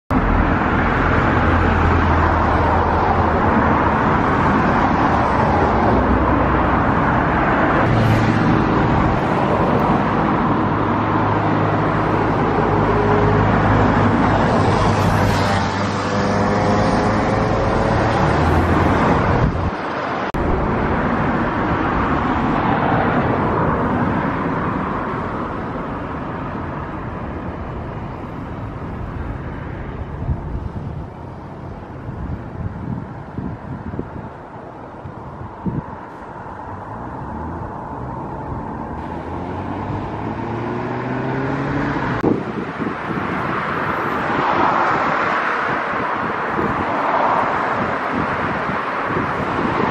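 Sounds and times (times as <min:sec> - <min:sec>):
road traffic: 0:00.1 - 0:49.9
vehicles passing: 0:00.1 - 0:49.9.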